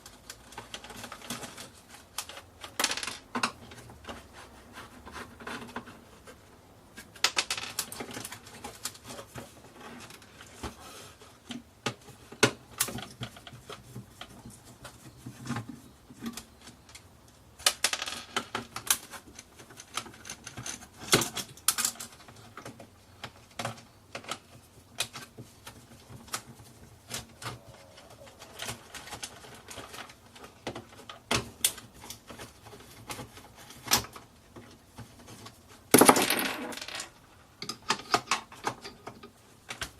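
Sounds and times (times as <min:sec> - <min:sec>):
plastic parts clicking and clattering: 0:00.0 - 0:04.2, 0:04.8 - 0:39.9.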